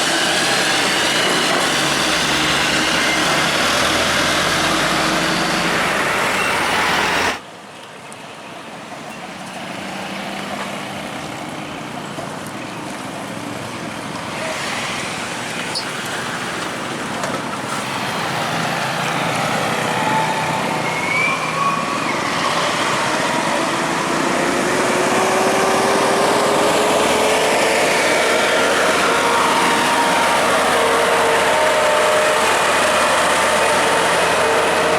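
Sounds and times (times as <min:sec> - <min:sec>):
heavy truck engine: 0:00.0 - 0:07.8, 0:08.4 - 0:34.9
traffic noise: 0:00.0 - 0:34.9.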